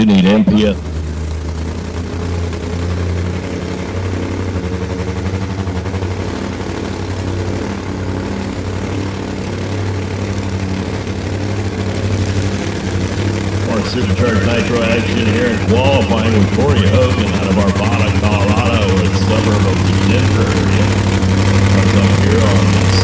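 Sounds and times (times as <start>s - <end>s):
motorcycle engine idling lumpily: 0.0s - 23.0s.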